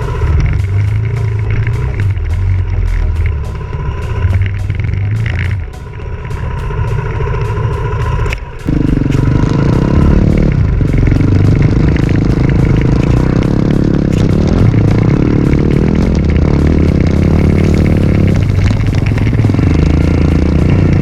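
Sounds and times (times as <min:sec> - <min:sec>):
background music: 0:00.0 - 0:21.0
dirt bike engine revving: 0:00.0 - 0:21.0.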